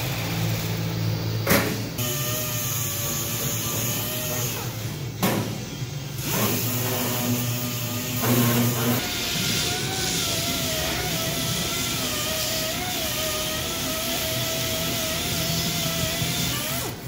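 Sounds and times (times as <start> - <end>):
air sander on sheet metal: 0.0 - 17.0.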